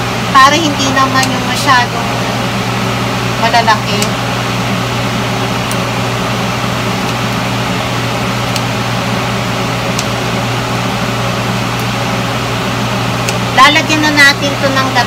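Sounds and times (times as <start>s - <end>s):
fan whirring with low hum: 0.0s - 15.0s.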